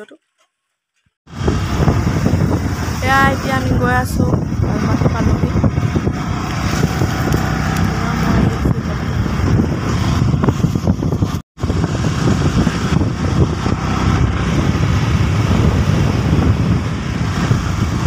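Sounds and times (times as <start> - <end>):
road noise: 1.2 - 18.0
engine noise: 1.3 - 18.0
wind buffeting microphone: 1.3 - 18.0.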